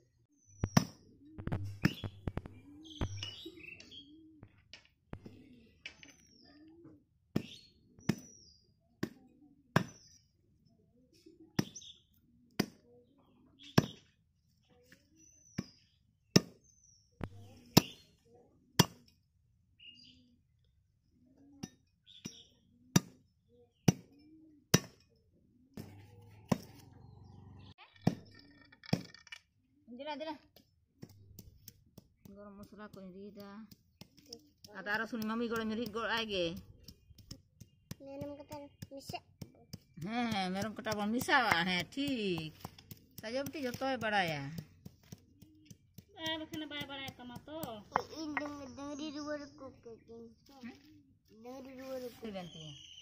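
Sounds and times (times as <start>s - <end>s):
birds chirping and cooing: 0.0s - 29.0s, 33.3s - 40.0s, 40.6s - 53.0s.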